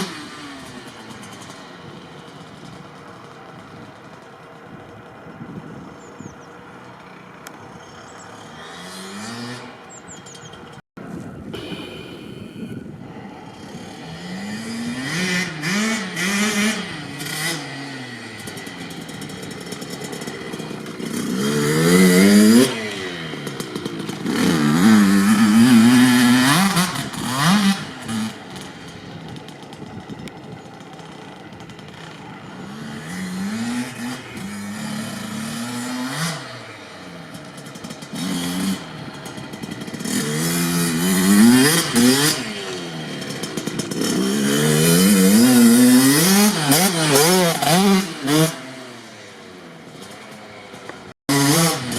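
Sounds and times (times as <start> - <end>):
dirt bike engine revving: 8.2 - 10.2, 11.6 - 49.1, 49.8 - 51.9.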